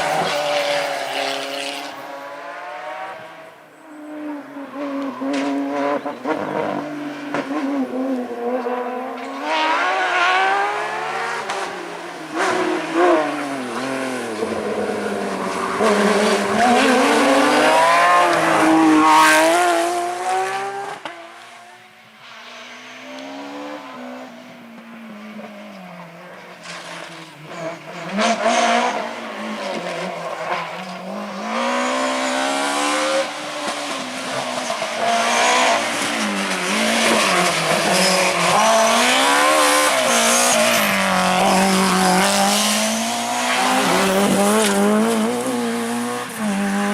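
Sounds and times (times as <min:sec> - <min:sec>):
rally car engines accelerating: 0:00.0 - 0:46.9.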